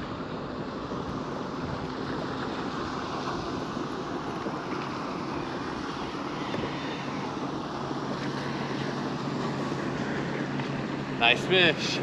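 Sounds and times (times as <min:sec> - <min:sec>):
wind buffeting microphone: 0:00.0 - 0:12.0
water lapping against boat hull: 0:00.1 - 0:12.0.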